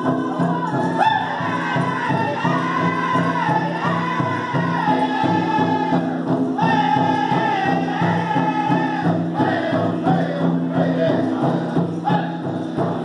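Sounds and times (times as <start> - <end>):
fast steady drumbeat: 0.0 - 13.0
group singing: 0.0 - 13.0.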